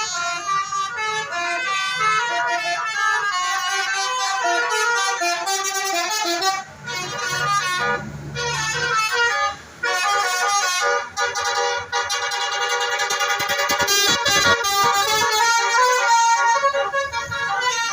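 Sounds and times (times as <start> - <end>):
engine rumble: 0.0 - 17.9
multi-tone musical bus horn: 0.0 - 17.9.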